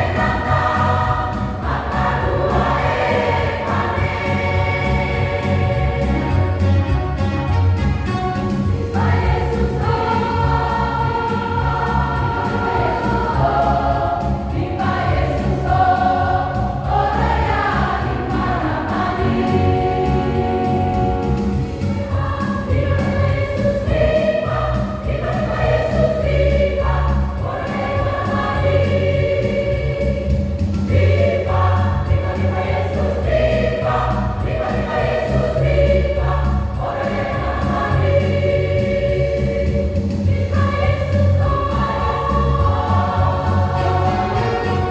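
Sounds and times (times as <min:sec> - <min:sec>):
choir singing: 0:00.0 - 0:07.0, 0:08.4 - 0:44.9
instrumental accompaniment with low beat: 0:00.0 - 0:44.9.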